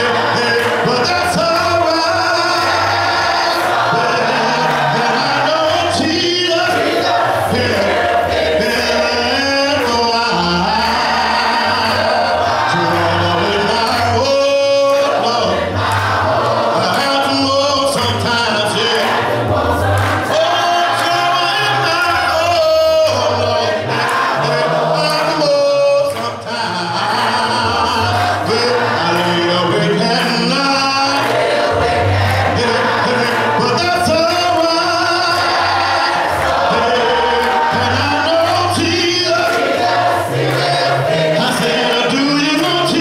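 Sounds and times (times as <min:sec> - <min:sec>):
man singing into a microphone: 0:00.0 - 0:03.1, 0:03.9 - 0:15.8, 0:16.6 - 0:19.4, 0:20.3 - 0:43.0
congregation singing a cappella: 0:00.0 - 0:43.0.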